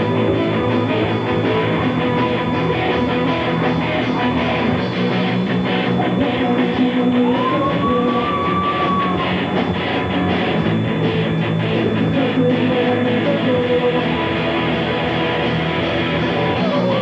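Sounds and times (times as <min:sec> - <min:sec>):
electric guitars: 0:00.0 - 0:17.0.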